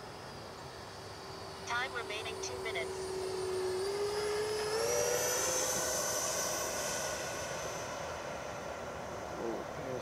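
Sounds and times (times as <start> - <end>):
electric ducted fan whine: 0.0 - 10.0.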